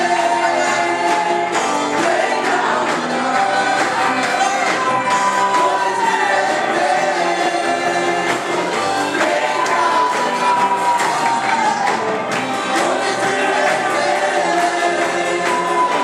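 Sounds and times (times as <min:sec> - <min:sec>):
instrumental accompaniment: 0:00.0 - 0:16.0
voices singing praise song: 0:00.0 - 0:16.0.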